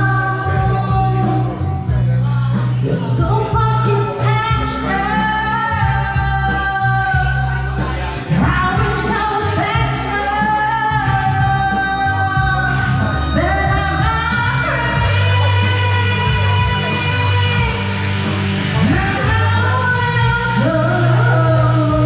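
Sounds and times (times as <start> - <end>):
backing track with heavy bass: 0.0 - 22.0
woman singing karaoke: 0.0 - 22.0.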